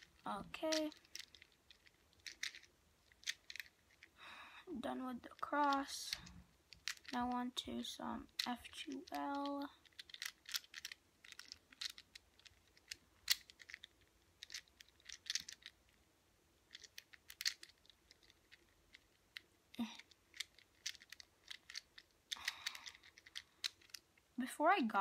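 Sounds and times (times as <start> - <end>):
speed cube plastic clicks: 0.0 - 4.1, 5.6 - 7.4, 8.2 - 15.9, 16.7 - 24.2.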